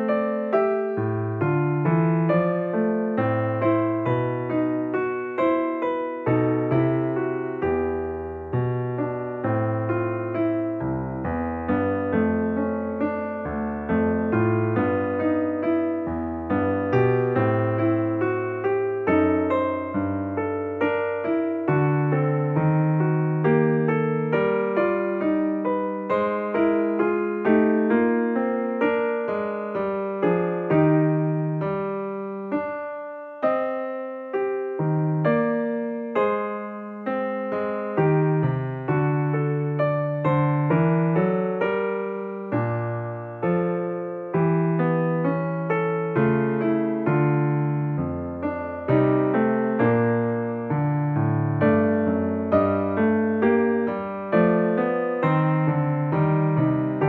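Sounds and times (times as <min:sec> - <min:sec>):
slow piano melody: 0:00.0 - 0:57.0.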